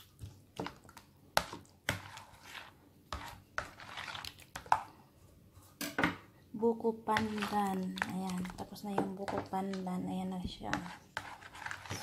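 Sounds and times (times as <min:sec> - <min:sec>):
spoon stirring thick salad: 0:00.0 - 0:05.1, 0:07.0 - 0:12.0.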